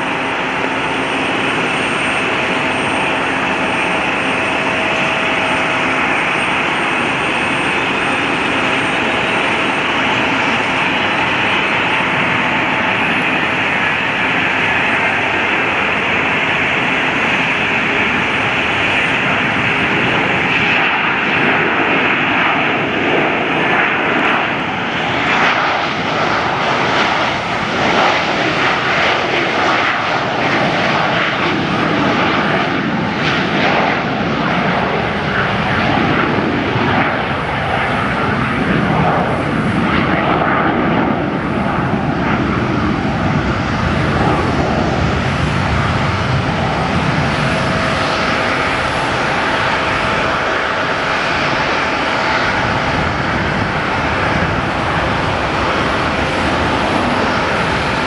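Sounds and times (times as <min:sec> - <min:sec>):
faint jet whine: 0:00.0 - 0:58.0
jet engine noise: 0:00.0 - 0:58.0.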